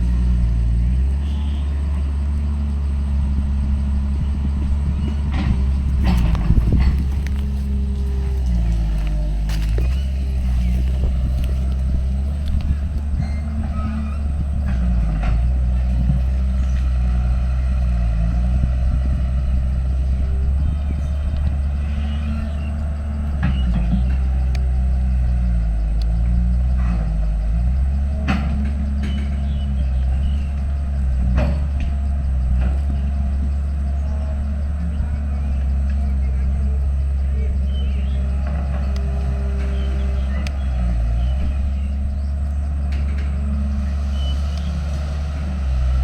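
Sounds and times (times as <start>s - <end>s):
heavy diesel engine under load: 0.0s - 46.0s.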